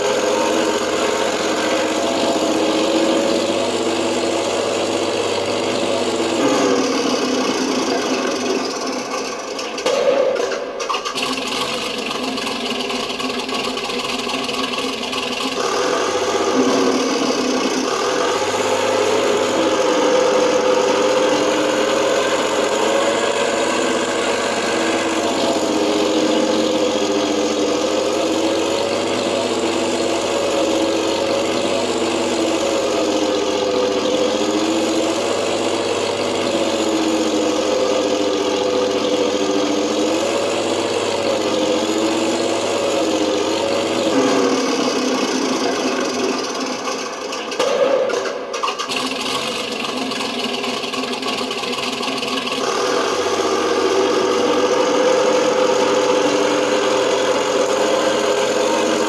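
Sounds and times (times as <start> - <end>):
tank engine sound effect: 0.0 - 59.0.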